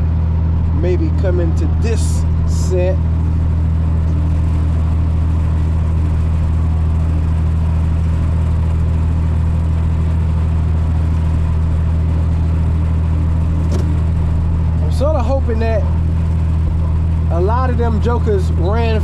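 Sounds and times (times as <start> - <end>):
tractor engine drone: 0.0 - 19.0.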